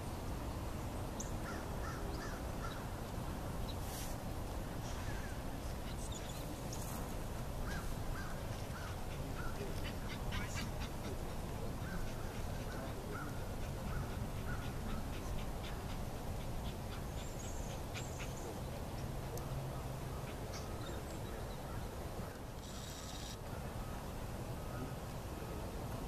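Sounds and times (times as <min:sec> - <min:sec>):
low outdoor rumble: 0:00.0 - 0:22.8
distant bird calls: 0:00.9 - 0:03.9, 0:04.6 - 0:25.7.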